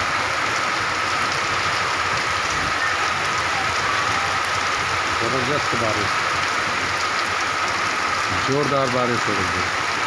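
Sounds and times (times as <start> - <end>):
heavy rain on wet pavement: 0.0 - 10.0.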